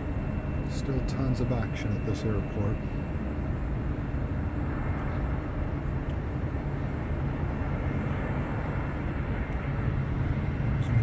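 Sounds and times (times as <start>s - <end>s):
distant jet airliners: 0.0s - 11.0s
road traffic: 0.0s - 11.0s.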